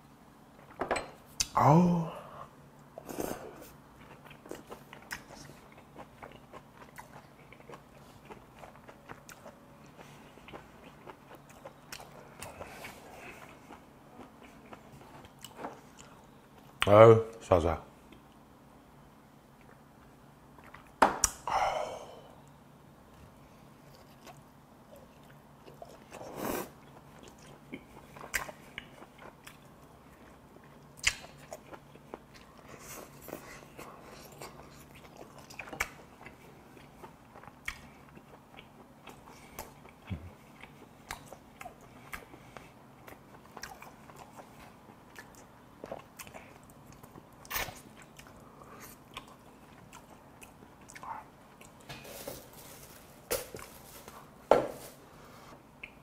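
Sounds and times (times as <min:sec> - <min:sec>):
man chewing food: 0:02.8 - 0:16.8, 0:19.4 - 0:21.8, 0:22.4 - 0:54.4.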